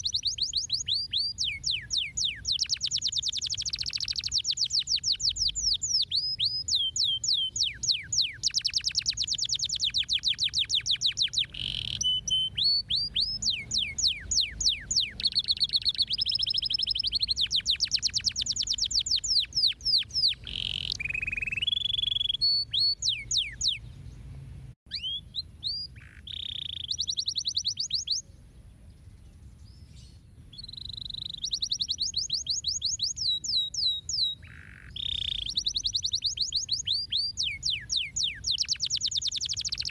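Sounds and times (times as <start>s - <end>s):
canary singing trills: 0.0s - 24.3s, 24.9s - 39.9s.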